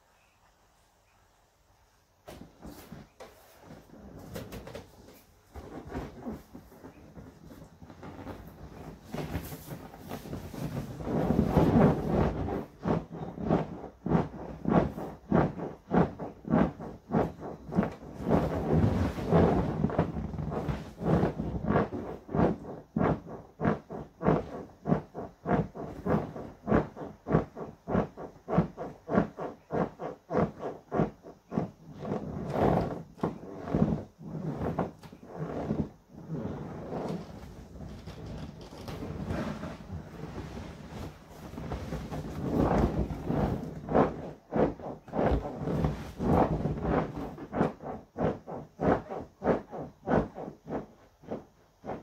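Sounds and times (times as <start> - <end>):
inflatable toy squeaking and rubbing: 2.6 - 52.0.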